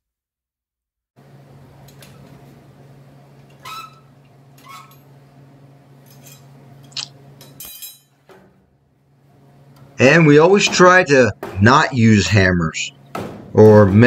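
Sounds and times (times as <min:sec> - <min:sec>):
steady low hum: 0:01.2 - 0:14.0.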